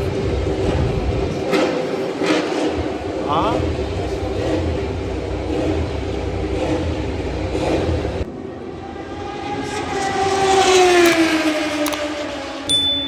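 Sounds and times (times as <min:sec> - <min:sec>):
steady rumble: 0:00.0 - 0:12.7
racing motorcycle passing: 0:00.0 - 0:12.9.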